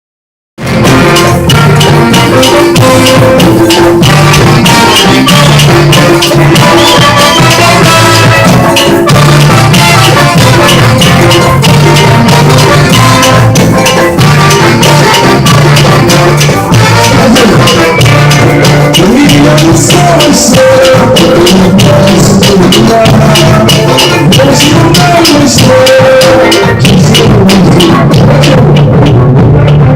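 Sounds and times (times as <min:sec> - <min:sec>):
samba percussion group playing: 0:00.6 - 0:29.9.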